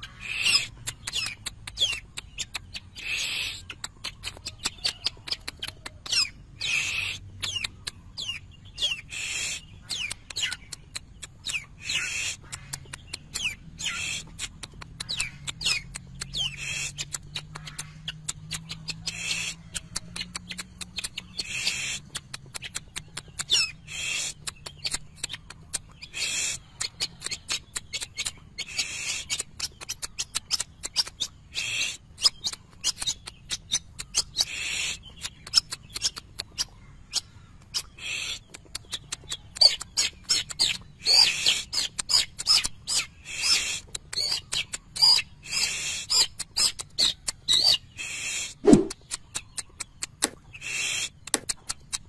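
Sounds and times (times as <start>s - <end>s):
harsh raspy bird calls: 0.0s - 49.6s, 50.4s - 52.0s
bird singing sharp clicking notes: 0.0s - 52.0s.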